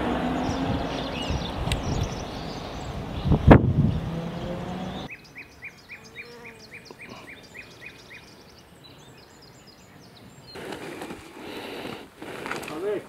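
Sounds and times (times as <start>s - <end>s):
higher bird chirps: 0.0s - 12.1s.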